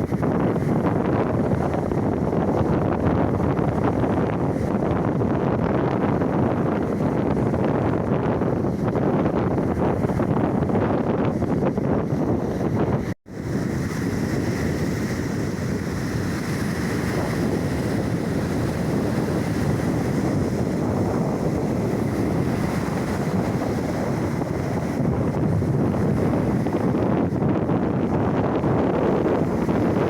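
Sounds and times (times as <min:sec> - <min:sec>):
surf washing onto shore: 0:00.0 - 0:30.0
wind buffeting microphone: 0:00.0 - 0:30.0.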